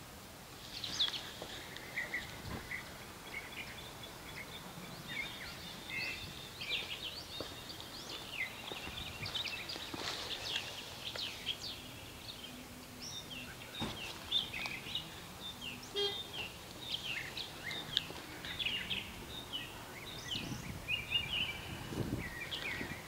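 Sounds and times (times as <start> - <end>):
songbirds chirping and singing: 0.5 - 23.0.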